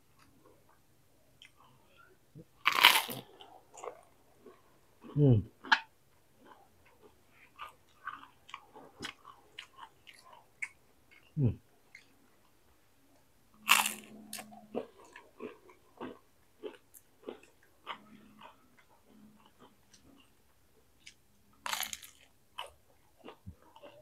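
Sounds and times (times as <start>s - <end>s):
crunchy chewing: 2.5s - 5.8s, 6.4s - 12.6s, 13.6s - 20.4s, 21.0s - 24.0s.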